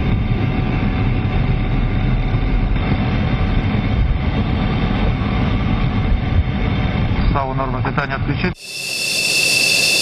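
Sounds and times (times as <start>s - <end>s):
jet engines low rumble: 0.0s - 10.0s.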